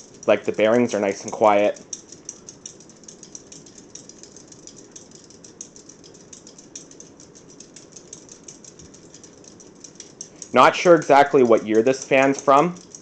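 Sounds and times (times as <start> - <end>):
ceiling fan whoosh: 0.0 - 13.0
light continuous ticking: 0.0 - 13.0.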